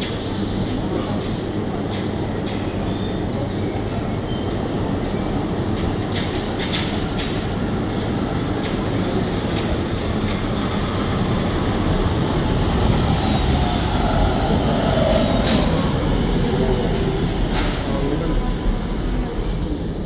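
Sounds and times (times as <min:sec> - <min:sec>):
monorail car rumbling: 0:00.0 - 0:20.0.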